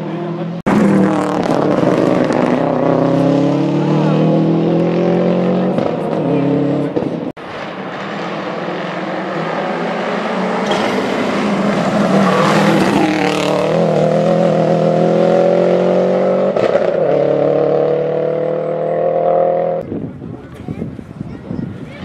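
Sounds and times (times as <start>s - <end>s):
rally car engine accelerating: 0.0s - 19.8s
car rushing past: 0.0s - 19.9s.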